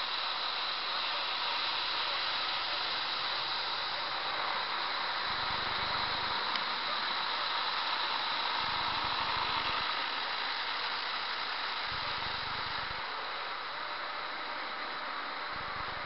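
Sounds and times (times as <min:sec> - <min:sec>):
water spray hissing: 0:00.0 - 0:16.0.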